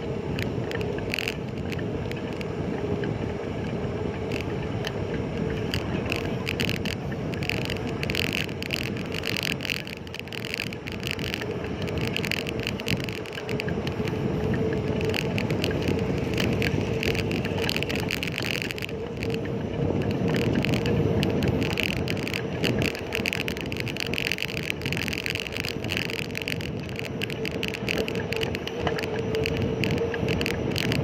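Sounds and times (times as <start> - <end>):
bicycle tyre noise: 0.0 - 31.0
constant hum: 0.0 - 31.0
road traffic: 0.0 - 31.0
wind noise: 0.0 - 31.0
small rattles: 0.3 - 3.2, 4.2 - 31.0.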